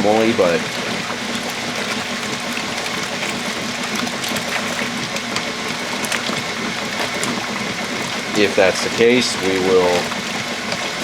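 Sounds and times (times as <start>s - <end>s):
washing machine motor hum: 0.0s - 11.0s
water sloshing in tub: 0.0s - 11.0s.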